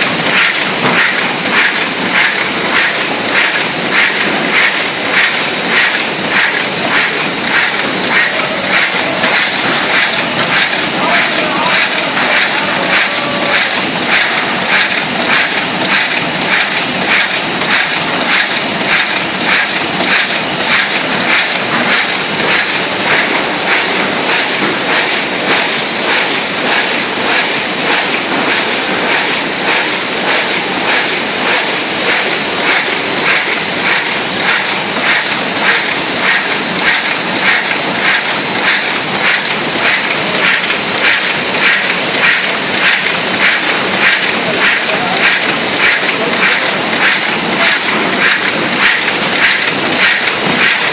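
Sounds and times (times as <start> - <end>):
die-cutting machine clattering: 0.0 - 50.9.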